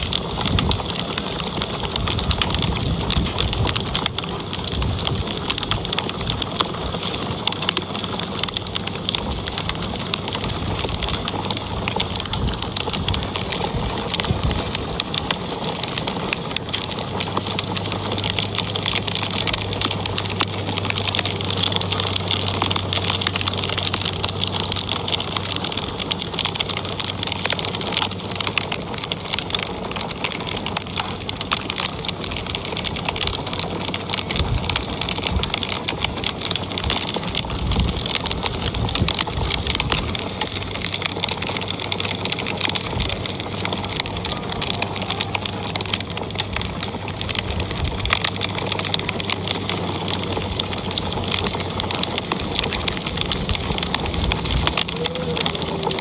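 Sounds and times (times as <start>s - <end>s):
fire crackling and popping: 0.0s - 56.0s
low steady hum: 0.0s - 56.0s.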